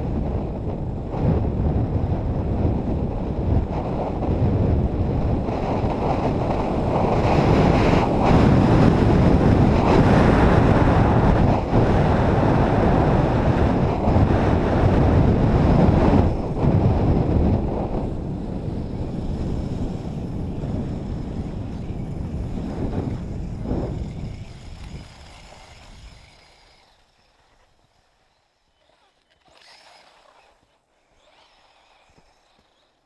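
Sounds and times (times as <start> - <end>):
wind rushing over microphone: 0.0 - 28.1
skis sliding over snow: 5.4 - 33.0.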